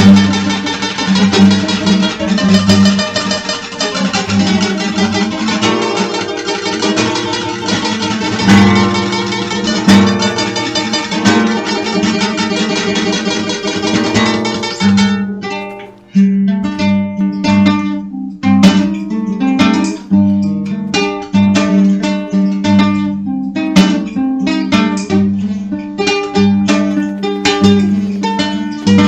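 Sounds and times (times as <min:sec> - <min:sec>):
acoustic guitar folk music: 0:00.0 - 0:29.0.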